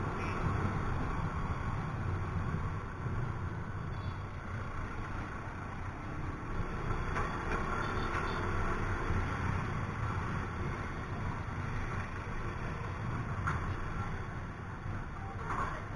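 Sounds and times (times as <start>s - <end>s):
road noise: 0.0s - 15.9s.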